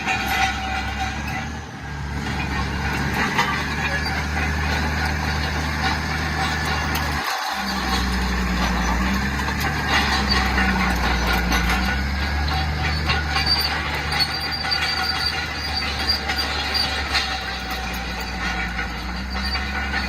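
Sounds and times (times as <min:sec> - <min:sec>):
diesel engine running: 0:00.0 - 0:20.0
high metallic squeal: 0:00.0 - 0:20.0
steel tracks clanking: 0:00.0 - 0:20.0.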